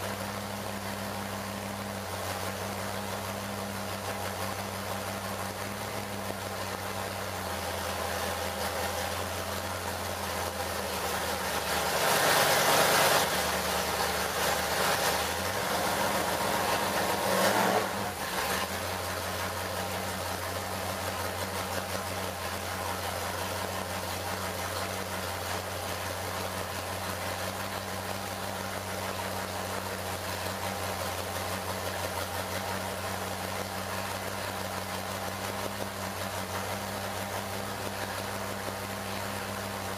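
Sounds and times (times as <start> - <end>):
engine revving and idling: 0.0 - 39.9.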